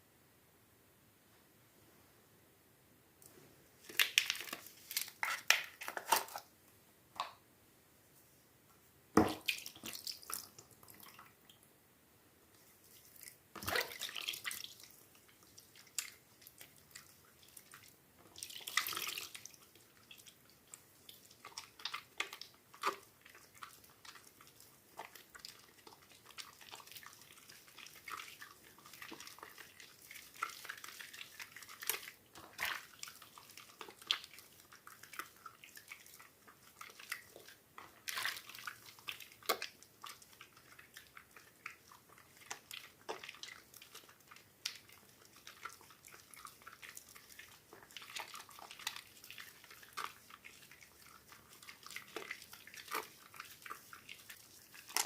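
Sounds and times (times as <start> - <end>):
wet soap squelching by hand: 3.8 - 6.5, 9.2 - 11.4, 12.6 - 55.0.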